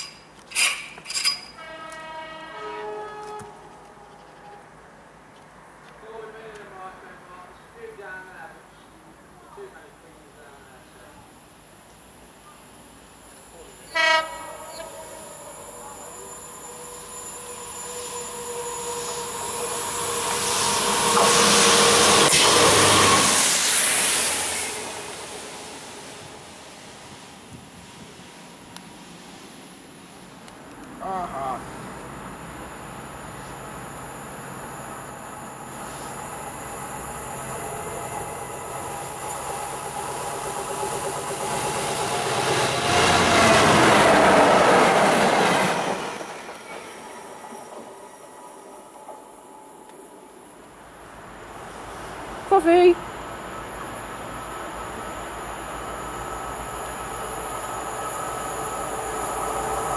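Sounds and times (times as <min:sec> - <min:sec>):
rail machine passing: 0:01.1 - 0:59.9
diesel locomotive engine: 0:01.6 - 0:59.9.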